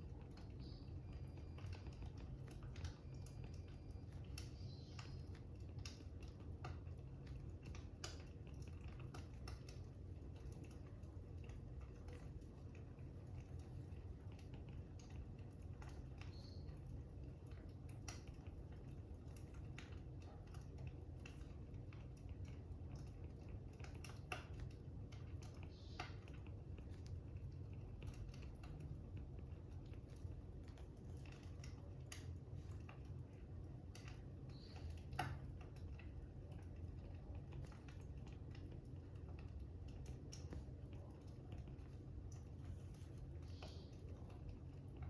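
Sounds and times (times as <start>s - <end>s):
fire crackling: 0.0s - 45.0s.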